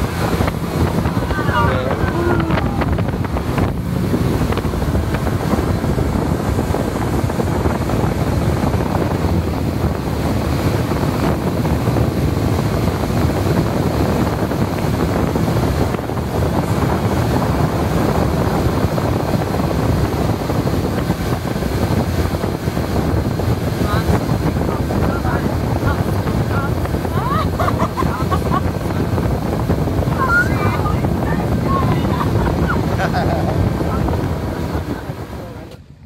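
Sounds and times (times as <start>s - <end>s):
speedboat motor running: 0.0s - 36.0s
wind buffeting microphone: 0.0s - 36.0s.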